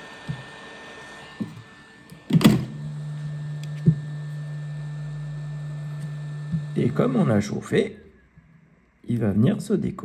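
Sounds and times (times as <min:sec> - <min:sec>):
low electric hum: 0:00.0 - 0:10.0.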